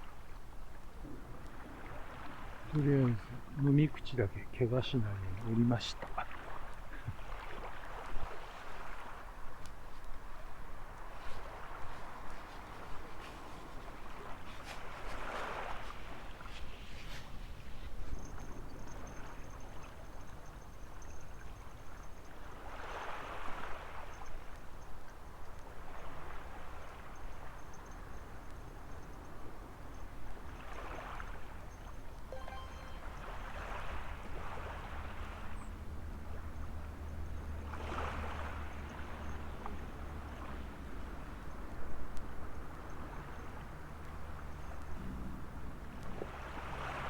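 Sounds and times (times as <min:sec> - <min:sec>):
small waves washing on beach: 0:00.0 - 0:27.6, 0:32.3 - 0:47.0.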